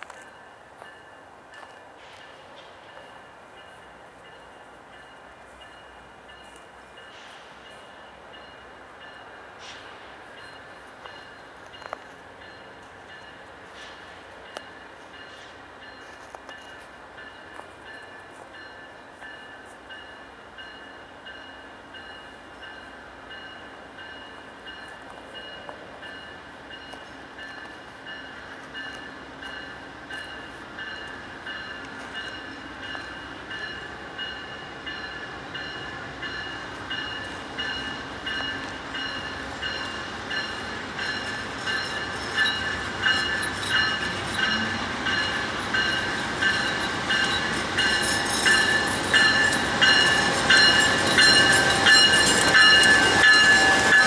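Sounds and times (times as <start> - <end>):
train wheels clicking over rail joints: 0.0 - 22.8, 24.0 - 54.0.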